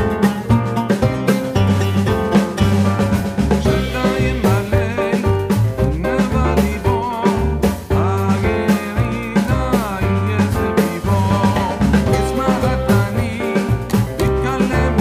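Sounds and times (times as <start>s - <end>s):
upbeat music with drum beat: 0.0s - 15.0s.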